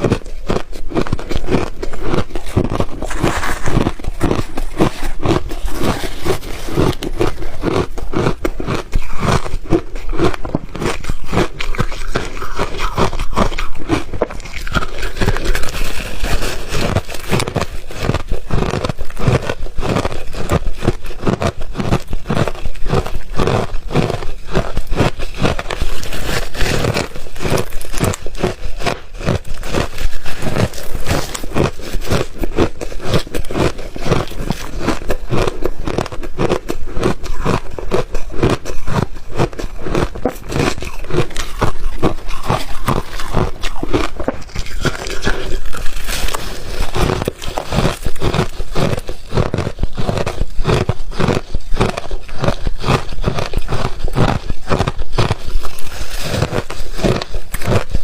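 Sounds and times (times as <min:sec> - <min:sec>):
crunching and biting ice: 0:00.0 - 0:58.0.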